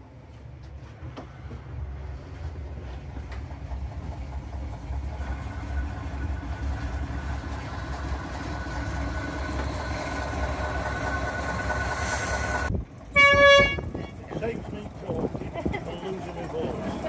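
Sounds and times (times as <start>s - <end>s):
miniature train rumbling on rails: 0.9s - 17.0s.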